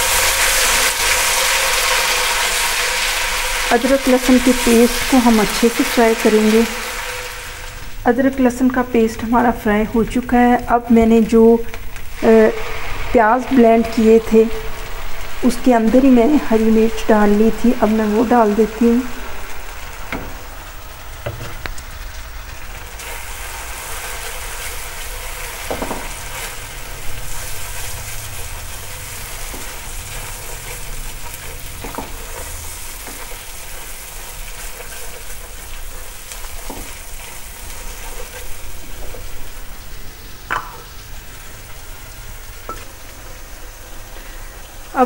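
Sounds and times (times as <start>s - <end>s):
oil sizzling in a wok: 0.0s - 45.0s.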